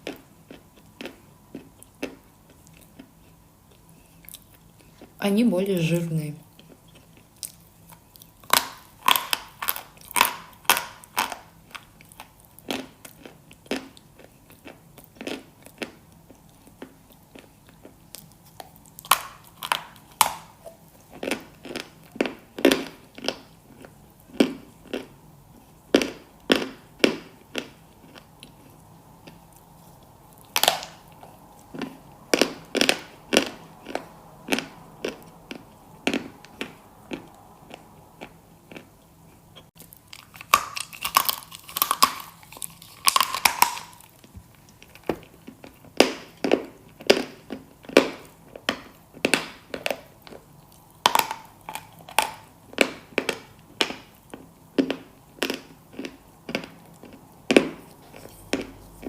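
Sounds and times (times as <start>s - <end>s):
crunchy food being chewed: 0.0s - 5.2s, 6.4s - 59.0s.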